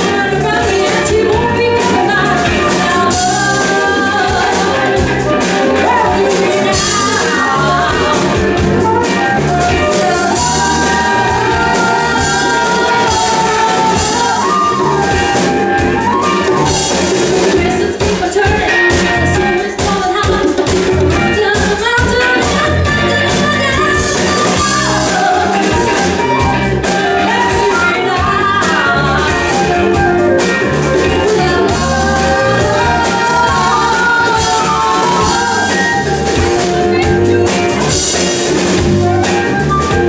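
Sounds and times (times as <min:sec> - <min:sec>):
bass guitar: 0:00.0 - 0:40.0
congas: 0:00.0 - 0:40.0
drum kit: 0:00.0 - 0:40.0
electric guitar: 0:00.0 - 0:40.0
woman singing: 0:00.0 - 0:40.0
flute: 0:00.6 - 0:17.8, 0:18.5 - 0:19.9, 0:22.2 - 0:40.0.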